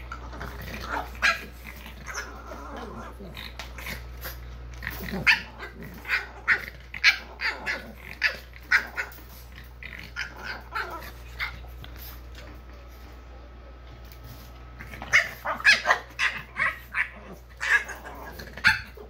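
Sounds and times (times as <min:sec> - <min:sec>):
dogs yapping and growling: 0:00.0 - 0:12.7, 0:14.0 - 0:19.0.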